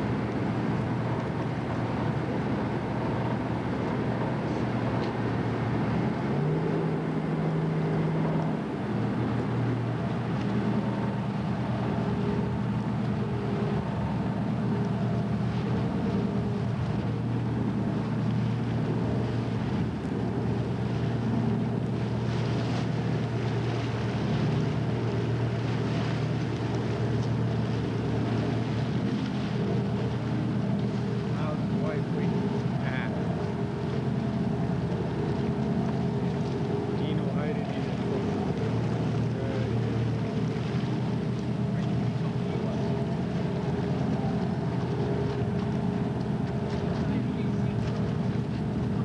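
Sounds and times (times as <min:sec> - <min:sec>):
boat diesel engines droning: 0:00.0 - 0:49.0.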